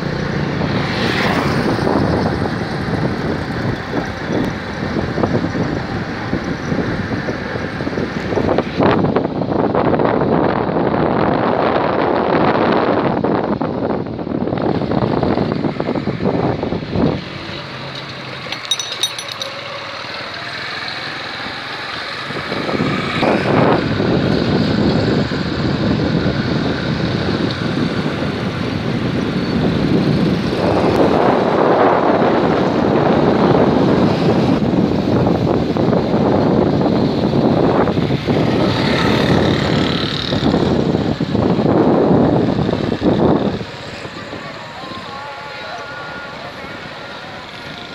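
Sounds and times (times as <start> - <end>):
traffic going by: 0.0 - 47.9
vehicle road and wind noise: 0.0 - 47.9.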